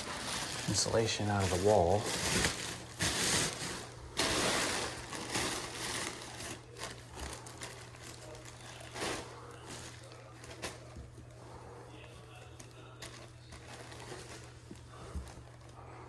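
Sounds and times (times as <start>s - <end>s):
insulation rustling and crinkling: 0.0s - 16.0s.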